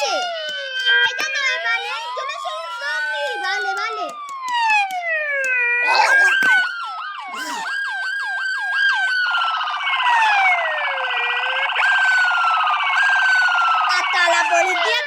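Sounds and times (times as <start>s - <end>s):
electronic police siren: 0.0s - 15.0s.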